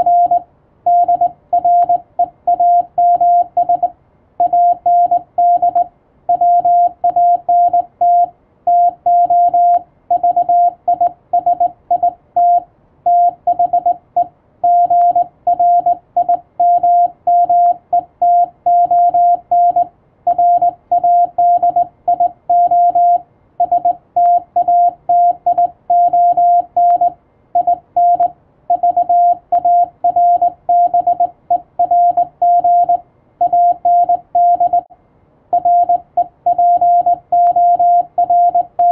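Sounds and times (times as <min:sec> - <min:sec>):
morse code beeps: 0:00.0 - 0:34.9, 0:35.5 - 0:38.9.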